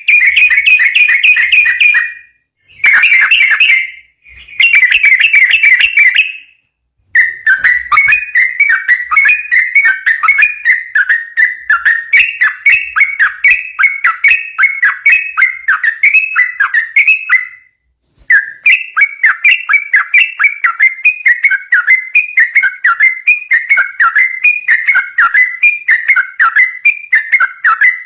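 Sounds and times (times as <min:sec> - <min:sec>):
bird singing whistled chatter: 0:00.0 - 0:06.6, 0:07.2 - 0:28.0.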